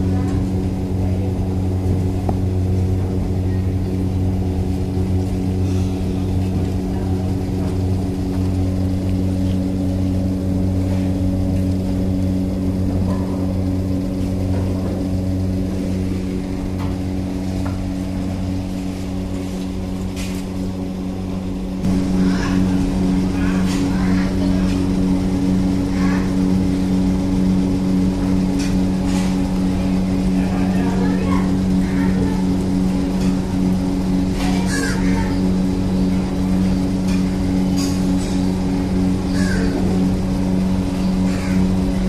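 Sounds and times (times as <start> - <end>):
low machine hum: 0.0 - 42.0.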